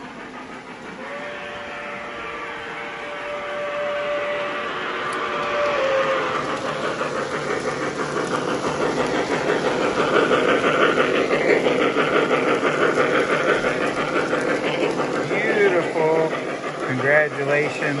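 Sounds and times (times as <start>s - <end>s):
steam locomotive chuffing: 0.0s - 18.0s
wheels rumbling on rails: 0.0s - 18.0s.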